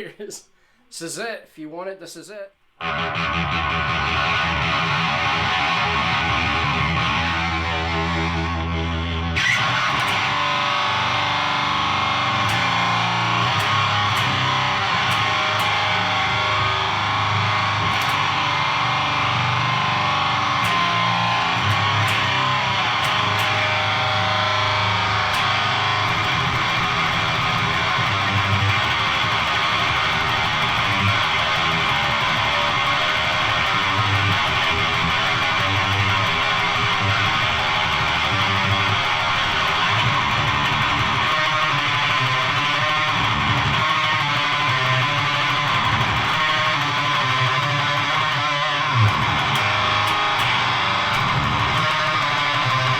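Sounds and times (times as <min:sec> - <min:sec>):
distorted electric guitar riffing: 0:02.8 - 0:52.9.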